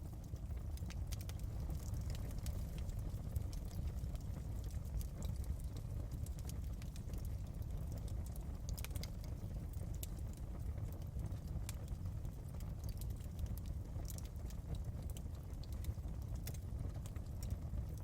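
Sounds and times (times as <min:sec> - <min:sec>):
fire crackling and popping: 0:00.0 - 0:18.0
fire low rumble: 0:00.0 - 0:18.0.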